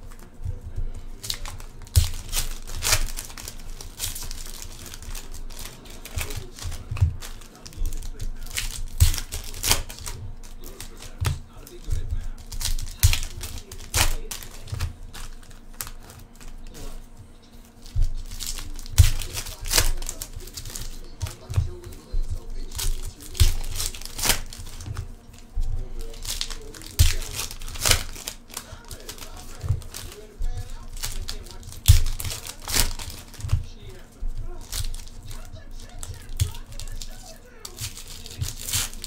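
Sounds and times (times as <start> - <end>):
cards being handled: 0.0 - 39.0
wrappers crinkling and ripping: 0.0 - 39.0.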